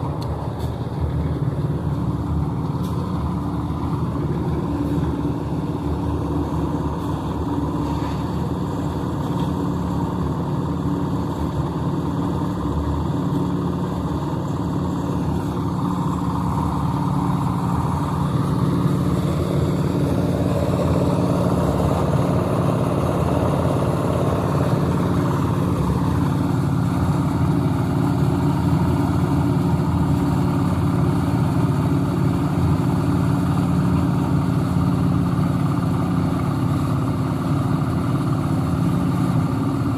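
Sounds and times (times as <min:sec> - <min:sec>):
concrete mixer churning: 0:00.0 - 0:39.9
small engine running: 0:00.0 - 0:39.9.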